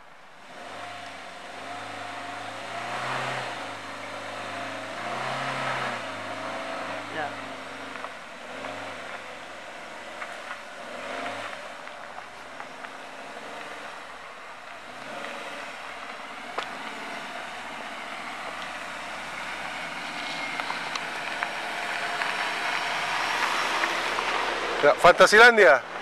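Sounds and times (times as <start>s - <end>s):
vehicle engine running slowly: 0.0s - 26.0s.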